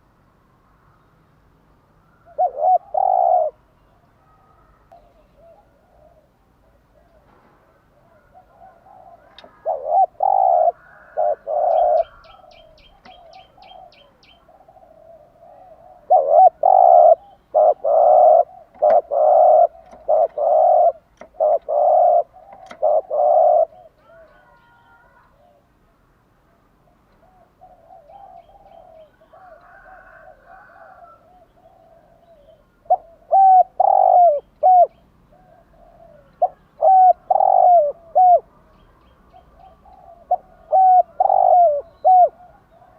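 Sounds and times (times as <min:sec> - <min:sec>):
dove cooing: 0:02.1 - 0:25.8, 0:26.8 - 0:38.5, 0:39.3 - 0:42.9.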